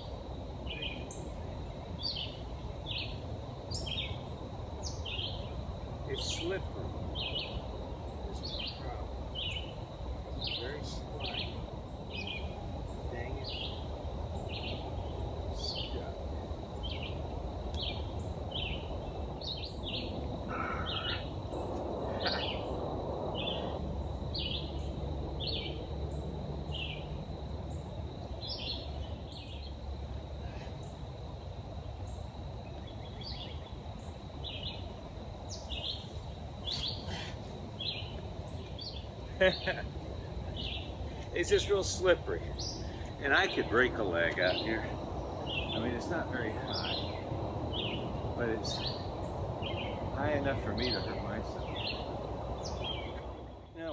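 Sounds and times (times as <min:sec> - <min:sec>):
bird chirping: 0:00.0 - 0:31.1, 0:31.8 - 0:53.9
low background hiss of woods: 0:00.0 - 0:53.9.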